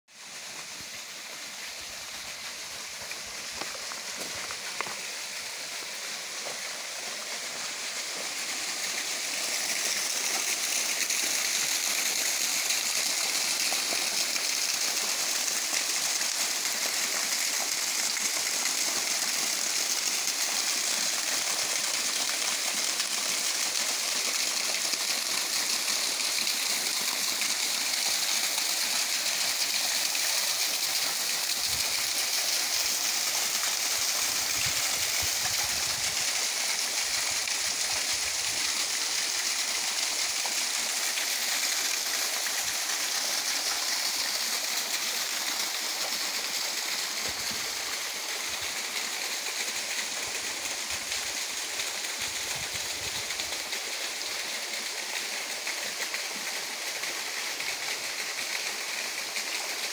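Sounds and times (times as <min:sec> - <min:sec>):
water splashing over stone cascade: 0:00.1 - 0:59.9.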